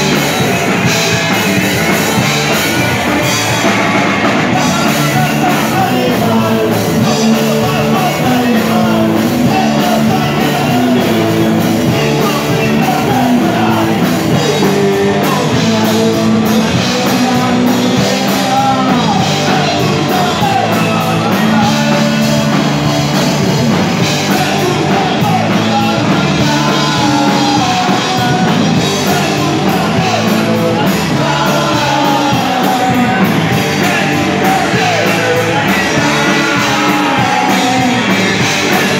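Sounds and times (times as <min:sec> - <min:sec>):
electric guitar: 0:00.0 - 0:38.9
punk rock band playing live: 0:00.0 - 0:38.9
person singing into microphone: 0:04.4 - 0:23.0, 0:24.0 - 0:38.9.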